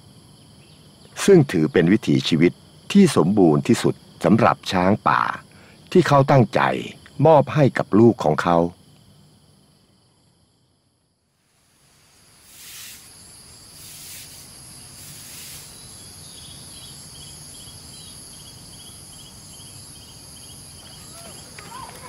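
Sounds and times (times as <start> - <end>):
cricket chirping: 0.0 - 22.0
insects trilling: 0.0 - 22.0.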